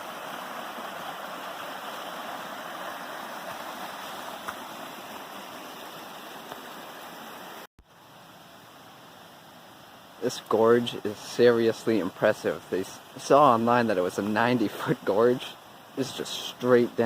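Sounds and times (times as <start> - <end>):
waterfall and stream rushing: 0.0 - 17.0.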